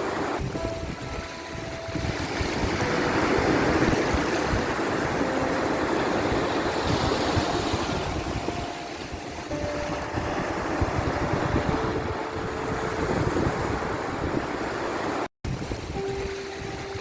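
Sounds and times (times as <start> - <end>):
sea waves and surf washing: 0.0 - 17.0.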